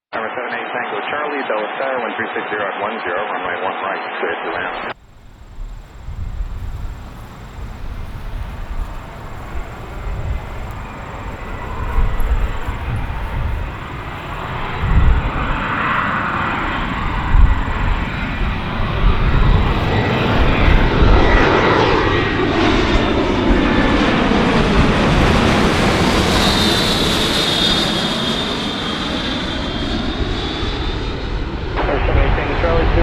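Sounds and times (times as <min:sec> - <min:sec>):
high turbine whine: 0:04.6 - 0:33.0
jet engines passing: 0:04.6 - 0:33.0.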